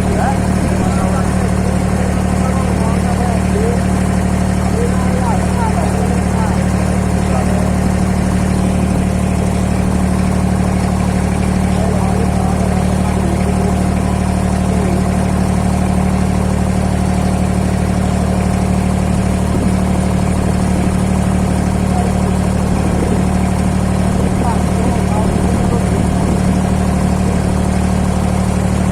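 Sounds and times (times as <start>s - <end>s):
boat engine droning: 0.0s - 28.9s.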